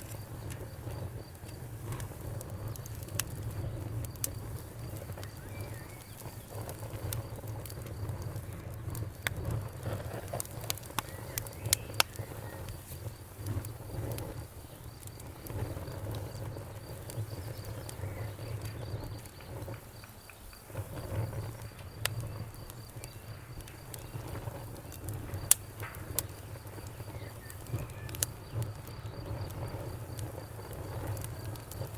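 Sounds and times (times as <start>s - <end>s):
campfire crackling and popping: 0.0s - 31.9s
cricket chirping: 0.0s - 31.9s.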